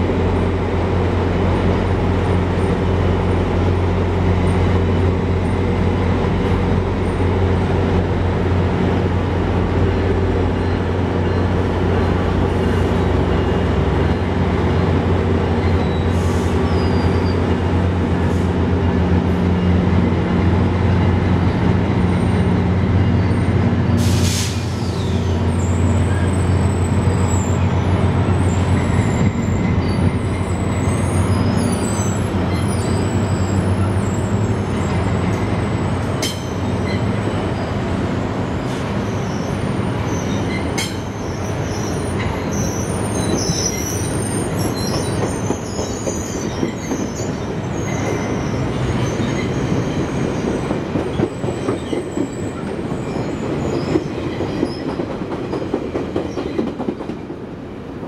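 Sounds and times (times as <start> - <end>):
train wheels squealing on rails: 0.0 - 57.4
diesel locomotive engine: 0.0 - 58.0.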